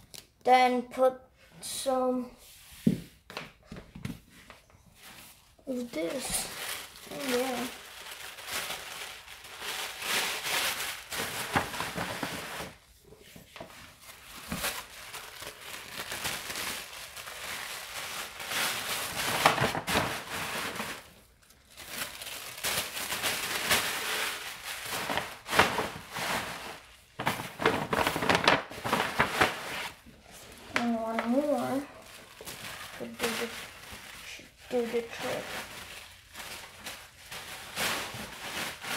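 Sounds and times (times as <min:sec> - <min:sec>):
paper rustling and crinkling: 0:03.7 - 0:38.9.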